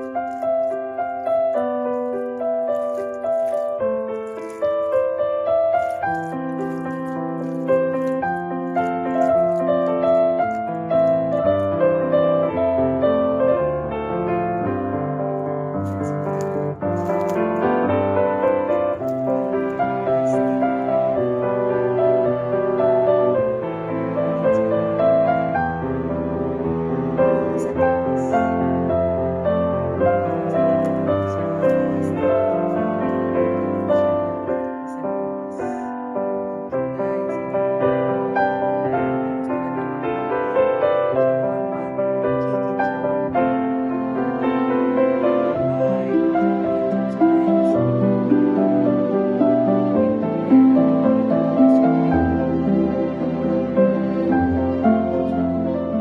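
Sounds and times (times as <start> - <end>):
slow piano music: 0.0 - 56.0.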